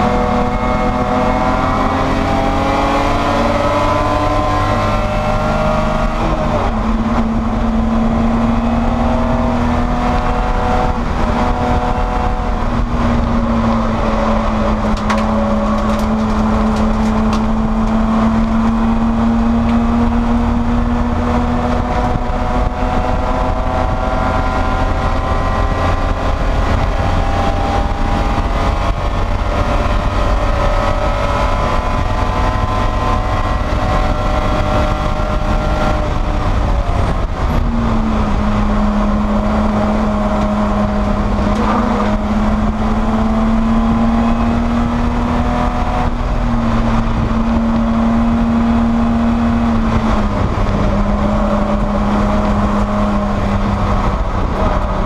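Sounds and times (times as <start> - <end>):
race car engine running hard: 0.0 - 55.0
wind and road noise: 0.0 - 55.0.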